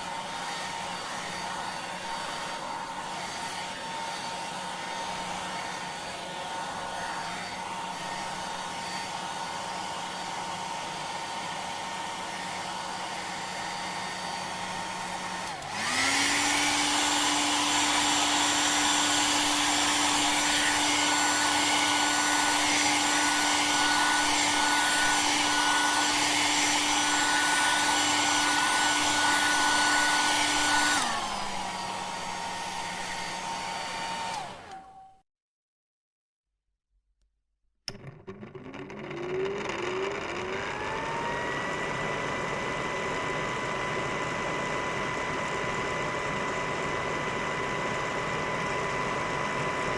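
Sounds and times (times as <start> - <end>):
hair dryer blowing: 0.0 - 35.1, 39.4 - 49.9.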